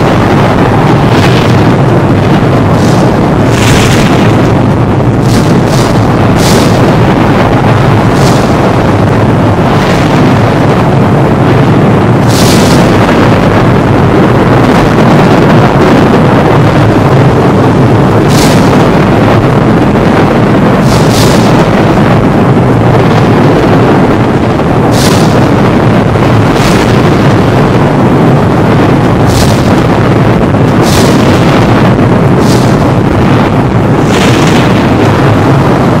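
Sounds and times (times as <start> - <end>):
sharp thunder cracks: 0.0 - 36.0
thunder rumbling: 0.0 - 36.0.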